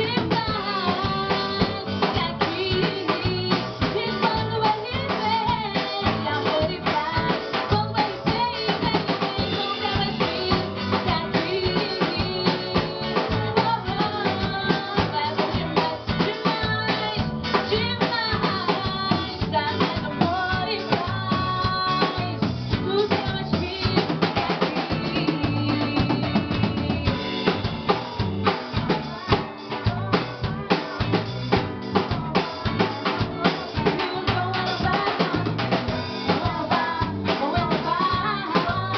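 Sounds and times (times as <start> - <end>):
band playing dance music: 0.0 - 38.9
drum kit beat with rimshots: 0.0 - 38.9.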